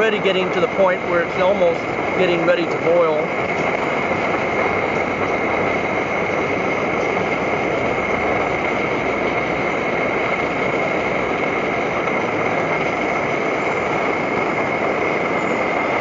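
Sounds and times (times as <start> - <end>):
stove burner roaring: 0.0 - 16.0.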